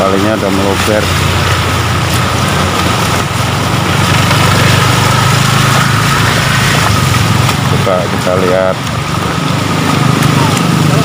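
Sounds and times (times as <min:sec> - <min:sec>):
motor scooter engine running: 0:00.0 - 0:11.0
rain falling: 0:00.0 - 0:11.0.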